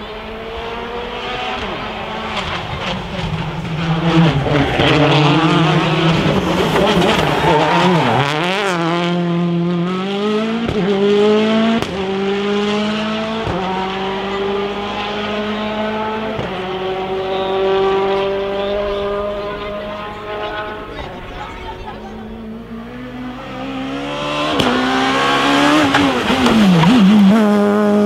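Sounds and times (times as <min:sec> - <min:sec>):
rally car engine at full throttle: 0:00.0 - 0:28.0.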